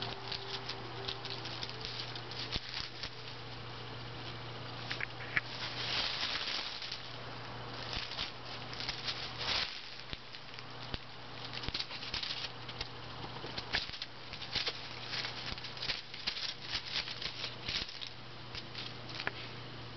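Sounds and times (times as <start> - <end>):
kittens scuffling: 0.0 - 19.6
faint low hum: 0.0 - 19.9.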